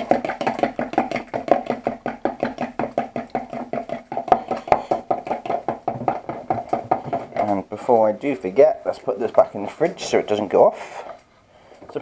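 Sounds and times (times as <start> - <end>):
spoon whisking in plastic jug: 0.0 - 11.2.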